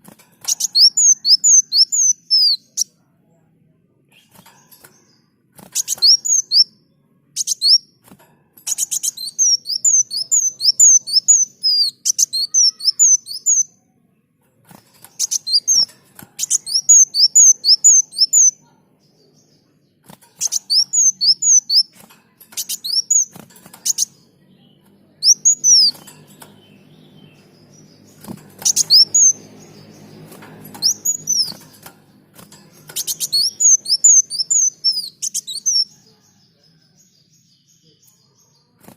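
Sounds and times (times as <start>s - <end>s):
bird chirping: 0.0s - 3.5s, 4.1s - 38.9s.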